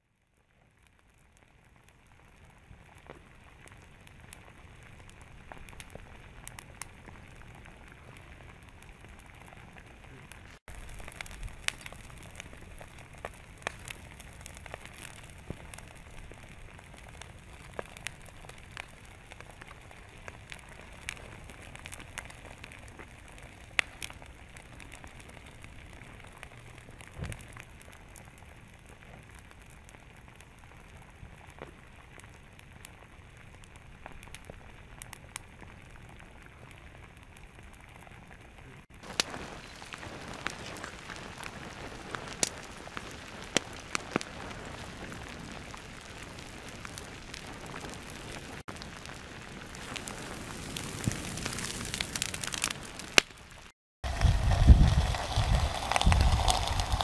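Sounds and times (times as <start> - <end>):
lava crackling and popping: 0.0 - 57.0.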